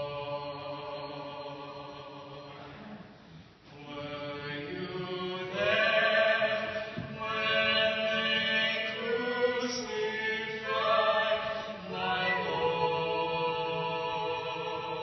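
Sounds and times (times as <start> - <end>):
slow chant-like singing: 0.0 - 15.0.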